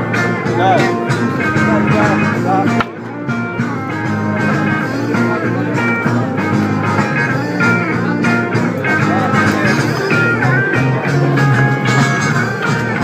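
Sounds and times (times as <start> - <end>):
blues-rock music with guitar: 0.0 - 13.0.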